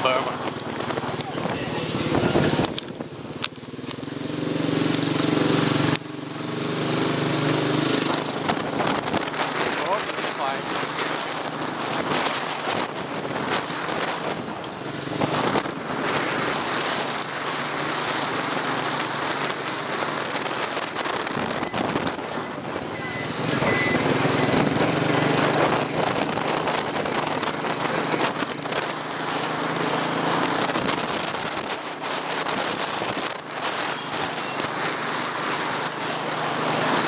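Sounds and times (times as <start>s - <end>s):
motorbike running: 0.0s - 37.0s
wind rushing over microphone: 0.0s - 37.0s.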